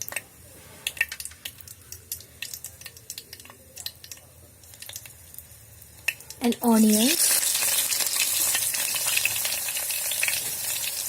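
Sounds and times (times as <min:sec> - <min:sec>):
oil crackling and popping in pan: 0:00.0 - 0:11.0.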